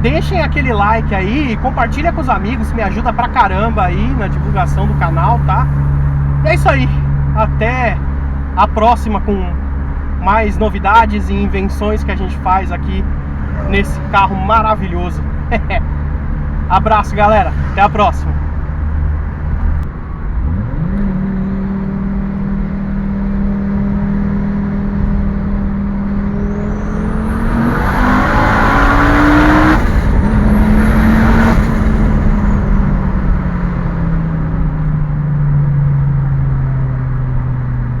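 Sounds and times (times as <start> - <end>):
turbocharged car engine under load: 0.0 - 38.0.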